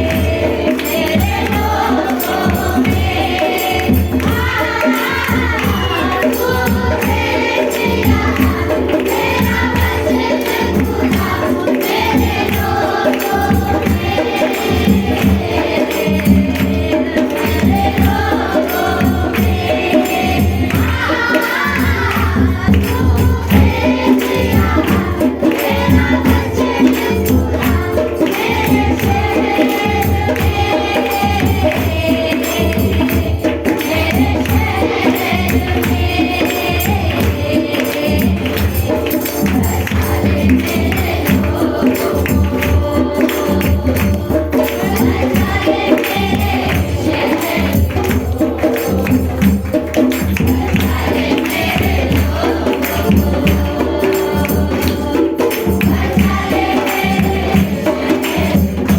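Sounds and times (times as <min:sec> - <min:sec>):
group singing worship song: 0:00.0 - 0:58.9
steady rhythmic beat: 0:00.0 - 0:58.9
tambourine shaking: 0:00.0 - 0:58.9.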